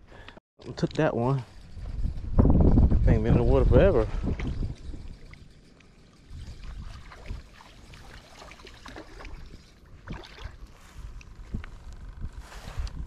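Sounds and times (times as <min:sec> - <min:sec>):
wind rumbling on microphone: 0:00.9 - 0:13.0.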